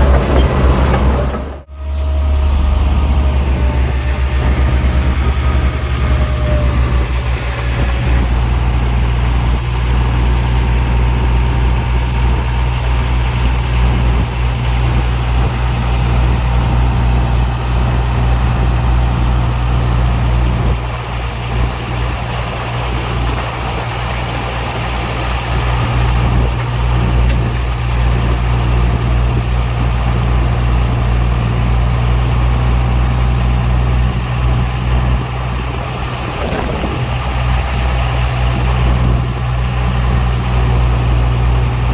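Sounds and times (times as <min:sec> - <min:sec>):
heavy diesel engine droning: 0:00.0 - 0:41.9.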